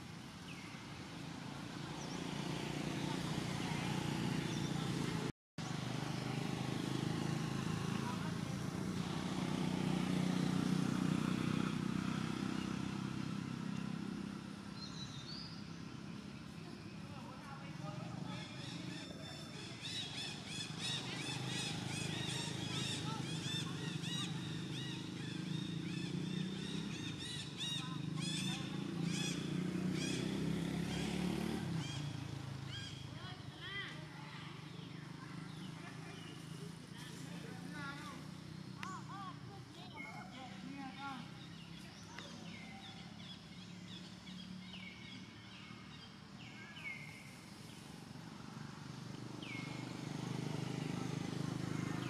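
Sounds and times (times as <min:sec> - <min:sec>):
engine droning: 0:00.0 - 0:52.0.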